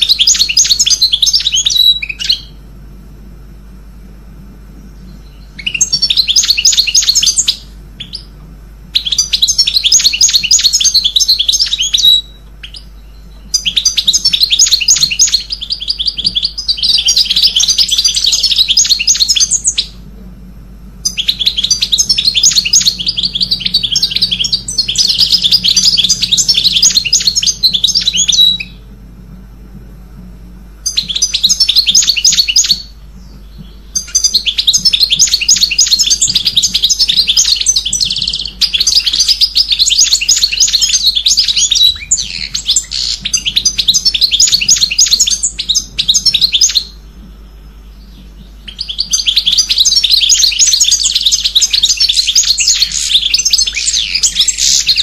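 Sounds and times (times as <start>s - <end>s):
songbird trilling: 0.0s - 2.6s, 4.8s - 20.0s, 21.0s - 28.9s, 30.8s - 55.0s.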